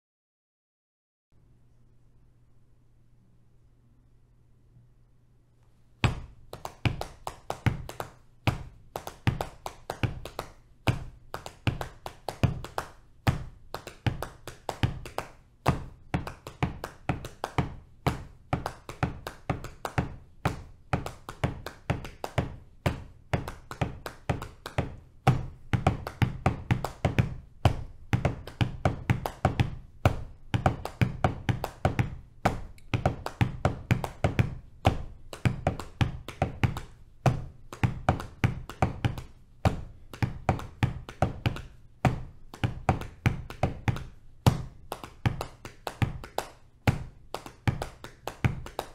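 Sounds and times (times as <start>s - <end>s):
hands patting thighs: 6.0s - 48.9s.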